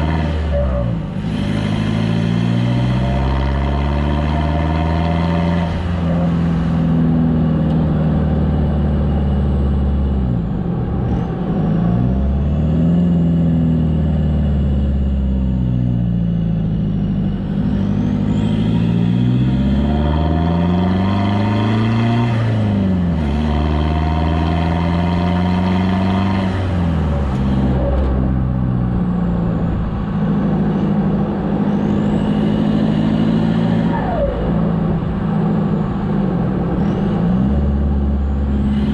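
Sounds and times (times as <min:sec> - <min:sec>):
diesel engine through open exhaust: 0:00.0 - 0:38.9.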